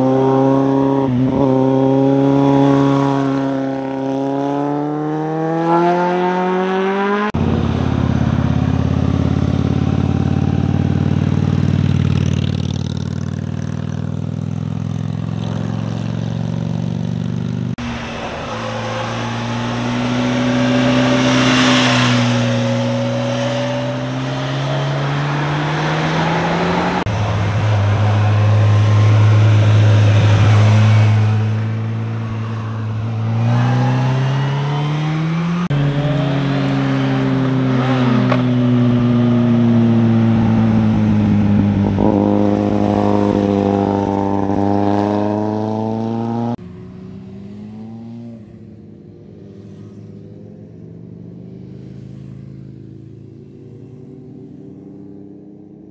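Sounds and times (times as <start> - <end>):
motorcycle engines accelerating: 0.0 - 55.9.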